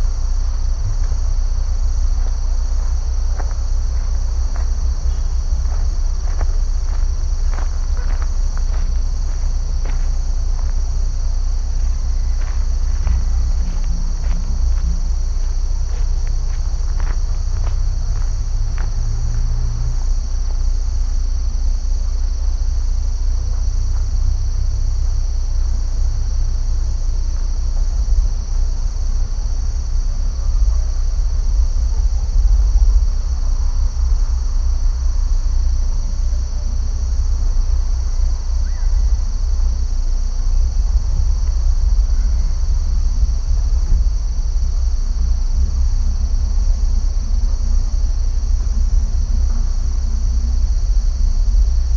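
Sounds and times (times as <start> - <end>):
insects chorus: 0.0 - 51.9
low rumble: 0.0 - 51.9.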